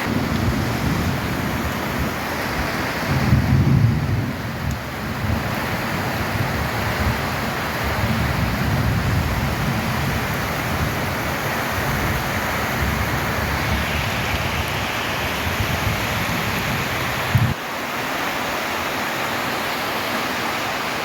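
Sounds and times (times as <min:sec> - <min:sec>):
rain on a tin roof: 0:00.0 - 0:21.0.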